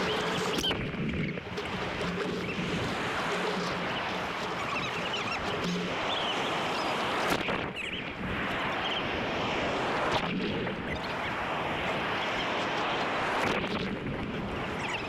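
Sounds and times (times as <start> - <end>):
ocean surf washing: 0.0 - 15.0
wind on microphone: 0.0 - 15.0.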